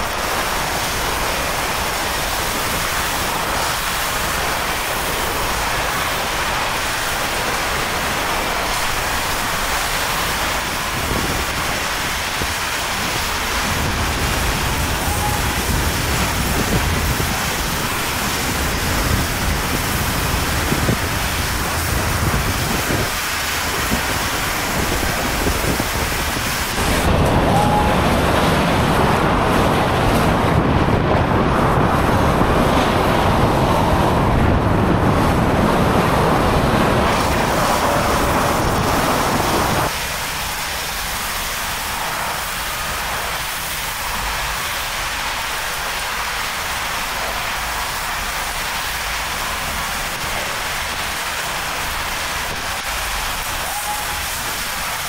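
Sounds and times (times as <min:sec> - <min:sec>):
wind buffeting microphone: 0:00.0 - 0:44.9
driving rain: 0:00.0 - 0:55.0
strong rushing wind: 0:00.0 - 0:55.0.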